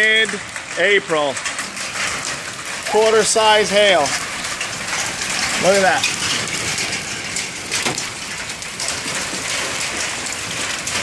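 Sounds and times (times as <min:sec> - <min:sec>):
hailstones falling: 0:00.0 - 0:11.0.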